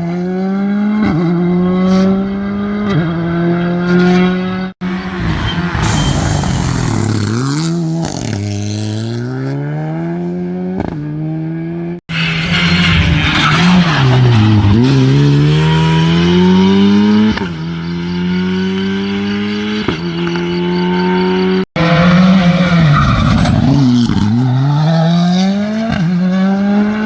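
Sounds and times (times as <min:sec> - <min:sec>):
rally car engine accelerating: 0:00.0 - 0:27.0.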